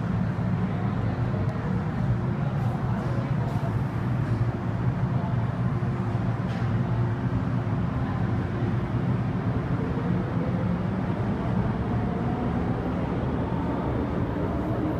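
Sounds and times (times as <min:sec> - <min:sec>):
rumble of train wheels on track: 0:00.0 - 0:14.9.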